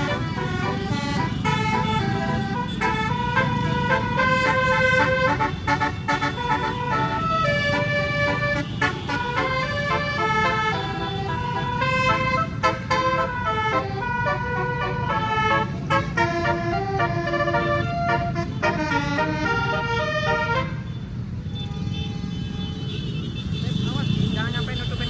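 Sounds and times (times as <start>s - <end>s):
melodic bus air horn: 0.0s - 23.3s
engine and road rumble: 0.0s - 25.0s.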